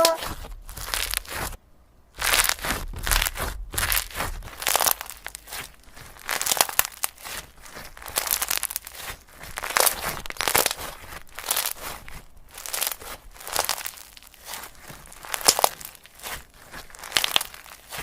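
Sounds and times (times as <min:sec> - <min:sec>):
slime squishing: 0:00.0 - 0:01.6, 0:02.2 - 0:18.0.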